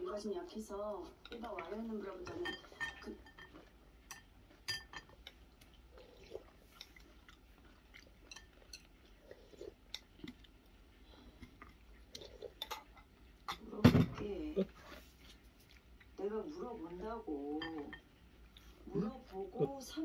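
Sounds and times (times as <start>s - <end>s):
chewing: 0.8s - 13.6s, 14.6s - 16.6s, 17.7s - 20.0s.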